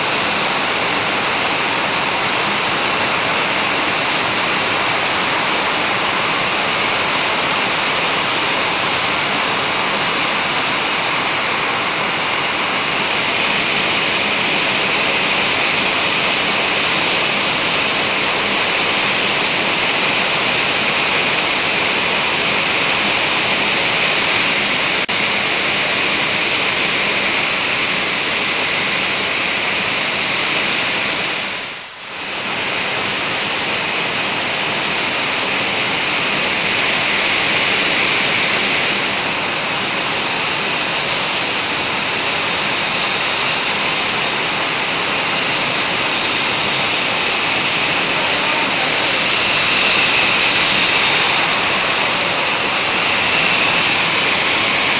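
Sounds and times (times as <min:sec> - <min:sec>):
jet engines whining: 0:00.0 - 0:54.9
loud engine rush: 0:00.0 - 0:54.9.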